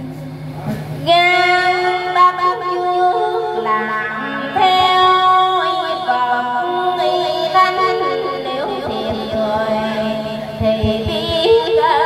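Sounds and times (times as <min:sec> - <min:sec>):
woman chanting over loudspeaker: 0:01.0 - 0:12.0.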